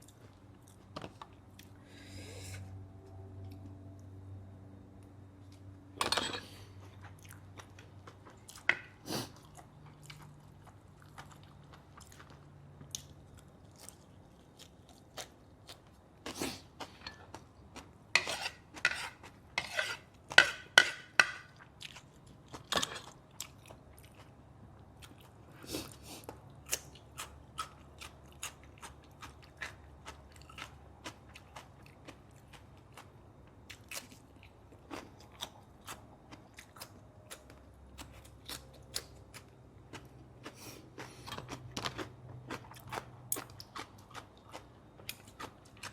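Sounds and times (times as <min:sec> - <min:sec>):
chewing and crunching food: 0:00.0 - 0:01.8, 0:06.4 - 0:45.9.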